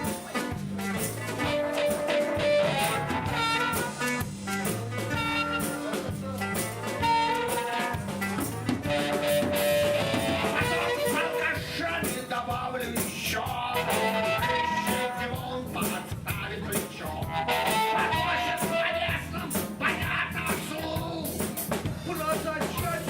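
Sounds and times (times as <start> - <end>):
live band with guitar and drums: 0.0 - 23.0.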